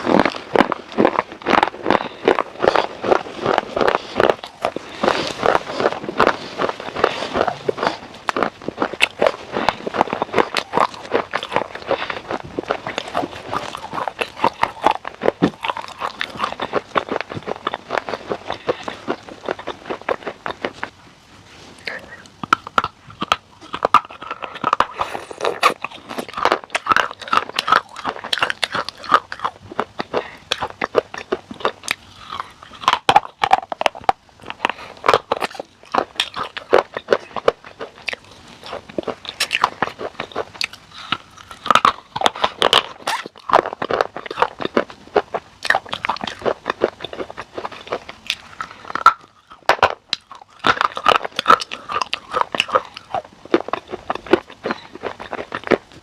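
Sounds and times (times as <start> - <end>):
crunchy food being chewed: 0.0 - 56.0.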